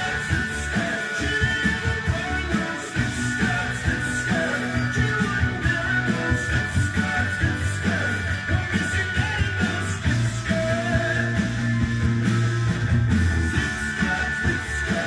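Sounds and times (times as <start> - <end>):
rock music from a vinyl record: 0.0 - 15.0.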